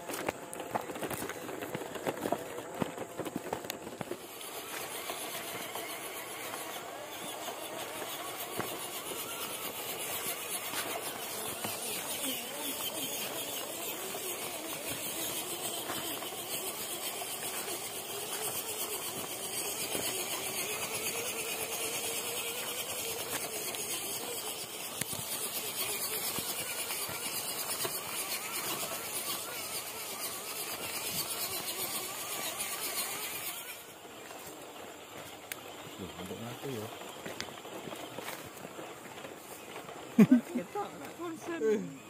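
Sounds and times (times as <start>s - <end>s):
electric motor and gearbox whining: 0.0s - 42.0s.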